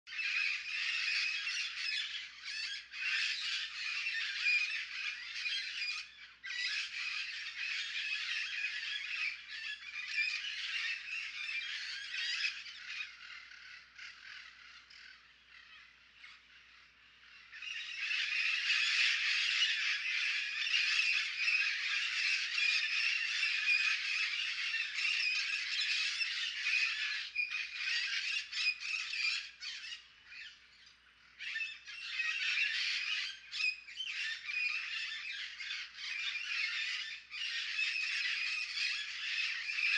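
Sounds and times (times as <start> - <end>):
parrots squawking: 0.1 - 16.4, 17.3 - 30.4, 31.3 - 39.9.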